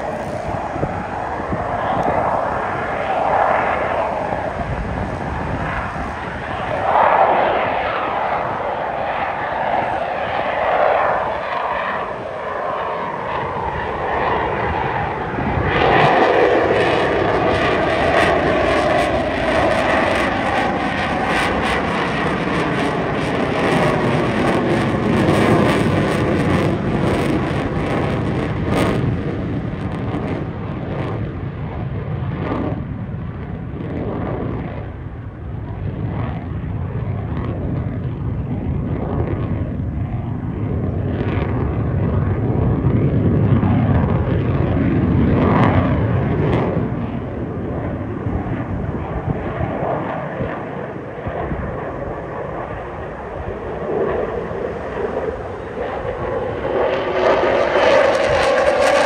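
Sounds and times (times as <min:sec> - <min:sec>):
jet flying overhead: 0:00.0 - 0:59.0.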